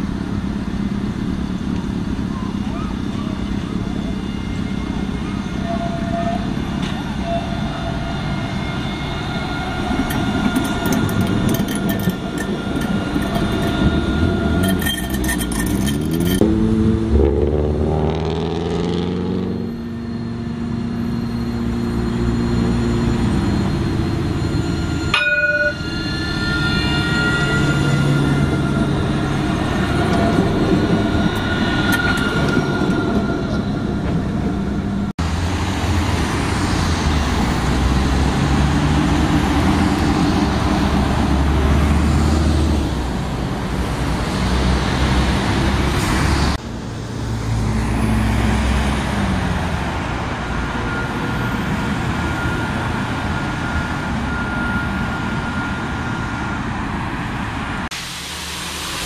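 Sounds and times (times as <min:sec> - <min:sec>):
cars and bus driving: 0:00.0 - 0:59.0
tram electric drive whining: 0:00.0 - 0:59.0.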